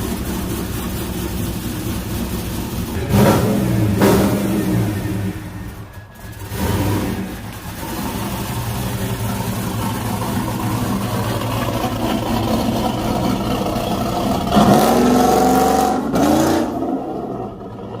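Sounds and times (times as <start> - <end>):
engine idling with choppy lope: 0.0 - 15.0, 16.6 - 18.0
engine revving: 2.9 - 18.0.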